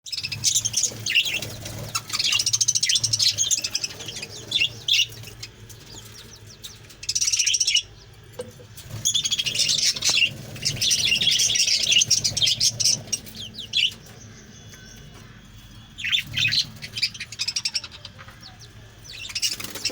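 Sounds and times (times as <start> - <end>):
parrots chattering: 0.1 - 19.9
steady low hum: 0.1 - 19.9.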